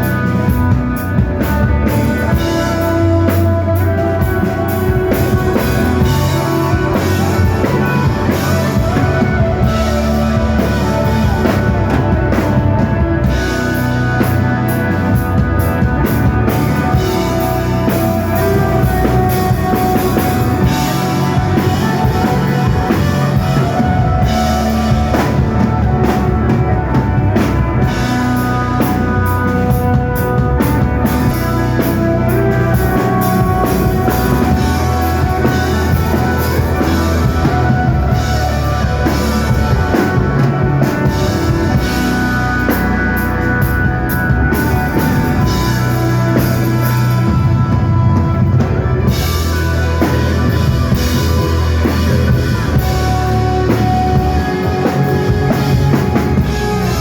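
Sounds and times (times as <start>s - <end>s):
drum kit: 0.0s - 57.0s
rock band playing live: 0.0s - 57.0s.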